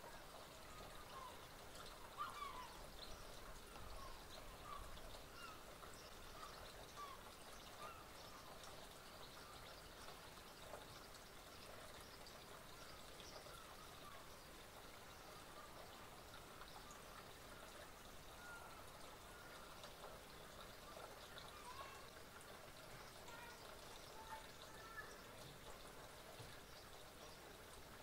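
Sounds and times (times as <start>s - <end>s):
small birds twittering and chirping: 0.0s - 28.0s.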